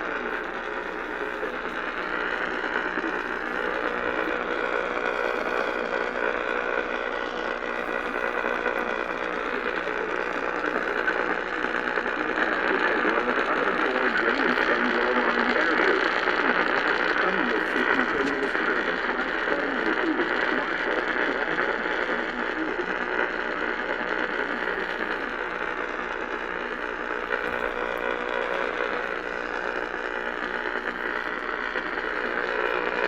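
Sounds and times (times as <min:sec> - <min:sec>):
radio static hiss: 0:00.0 - 0:33.0.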